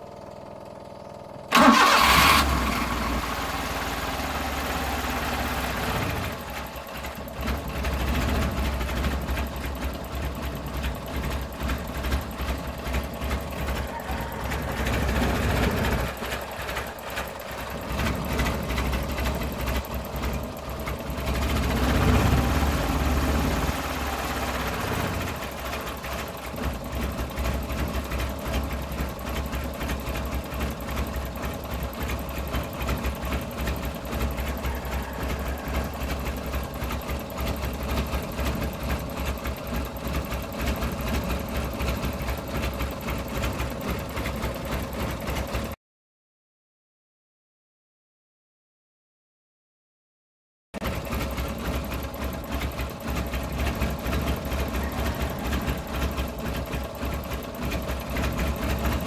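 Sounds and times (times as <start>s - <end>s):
cold engine running roughly: 0.0s - 45.8s, 50.8s - 59.0s.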